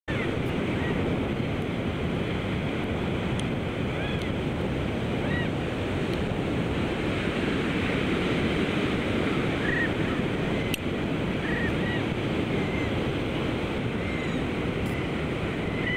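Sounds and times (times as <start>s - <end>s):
surf rushing: 0.1s - 15.9s.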